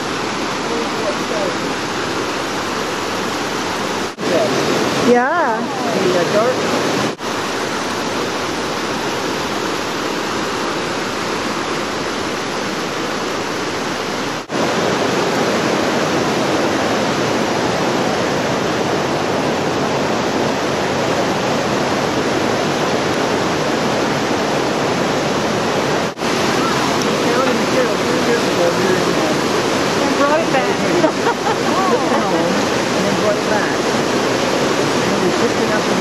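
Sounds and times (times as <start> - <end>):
stream and waterfall rushing: 0.0 - 36.0.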